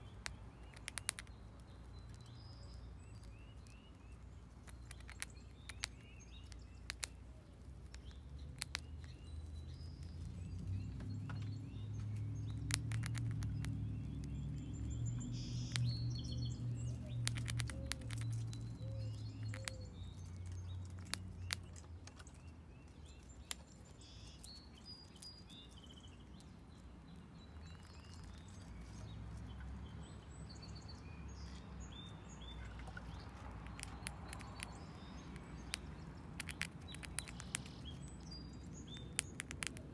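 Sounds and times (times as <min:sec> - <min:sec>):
squirrel gnawing corn: 0:00.0 - 0:29.8, 0:32.5 - 0:39.9
small birds chirping: 0:00.0 - 0:39.9.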